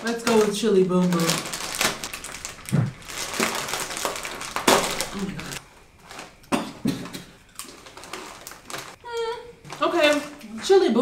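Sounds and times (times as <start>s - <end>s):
crisp packet crinkling: 0.0s - 9.0s, 9.7s - 10.6s
crisps crunching: 0.0s - 9.0s.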